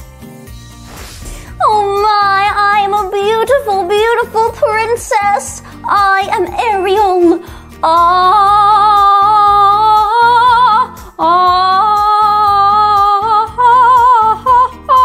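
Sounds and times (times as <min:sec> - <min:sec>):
soft backing music: 0:00.0 - 0:15.0
woman singing wordless notes: 0:01.6 - 0:15.0.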